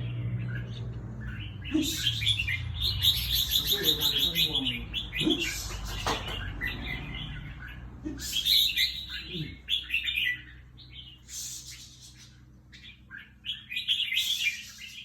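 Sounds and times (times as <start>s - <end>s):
bulbul singing chirpy phrases: 1.2s - 5.9s, 6.7s - 15.0s.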